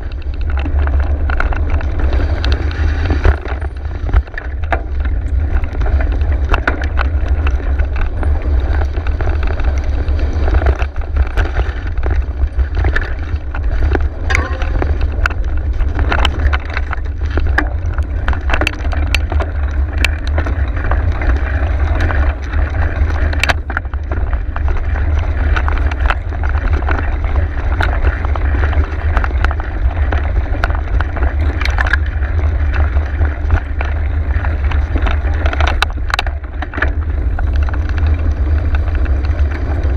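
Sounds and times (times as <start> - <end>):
bike rattling over bumps: 0.0 - 39.9
tyres on rough ground: 0.0 - 39.9
wind rumble on microphone: 0.0 - 39.9.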